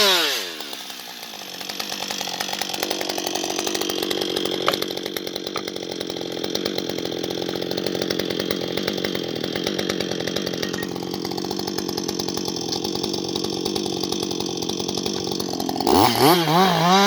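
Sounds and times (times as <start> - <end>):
chainsaw running at high speed: 0.0 - 17.0.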